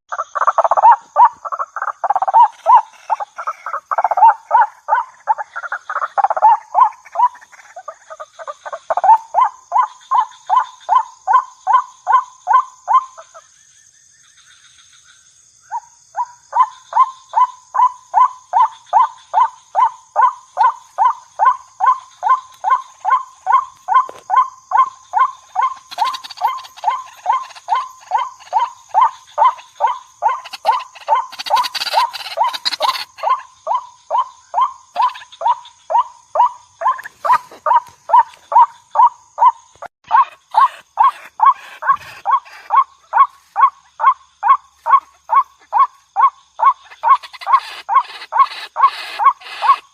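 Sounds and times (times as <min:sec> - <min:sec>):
waterhen calling: 0:00.1 - 0:11.8, 0:18.5 - 0:49.9.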